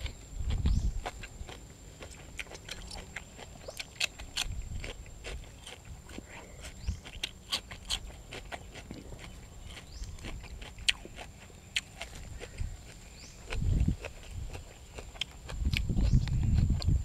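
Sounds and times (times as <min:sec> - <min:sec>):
chewing with crisp crunches: 0:00.0 - 0:17.0.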